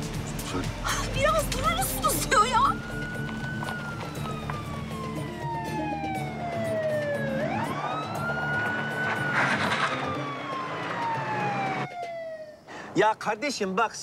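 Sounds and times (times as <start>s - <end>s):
police siren wailing: 0.4s - 12.7s.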